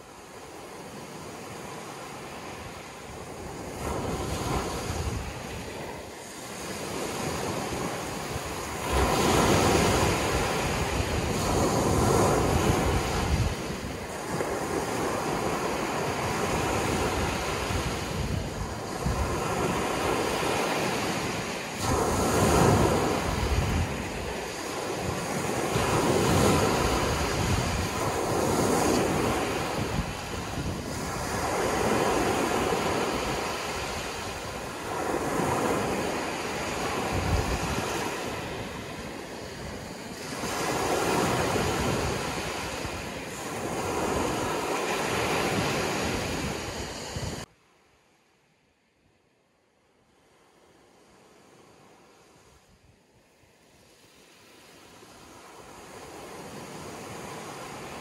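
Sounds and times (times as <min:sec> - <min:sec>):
waves breaking and washing in: 0:00.0 - 0:58.0.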